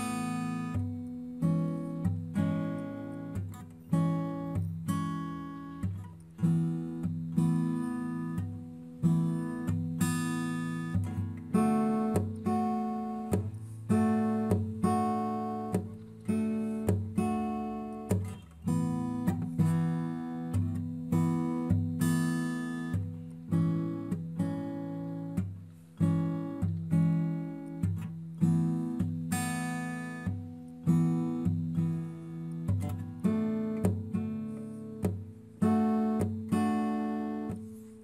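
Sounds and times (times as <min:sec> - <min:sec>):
acoustic guitar strumming chords: 0:00.0 - 0:38.0.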